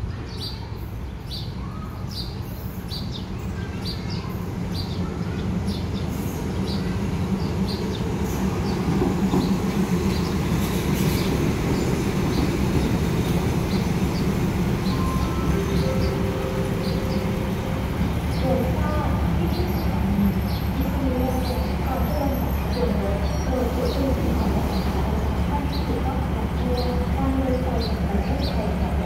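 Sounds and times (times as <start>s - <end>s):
diesel train engine rumble: 0.0s - 29.0s
bird chirping: 1.3s - 28.7s.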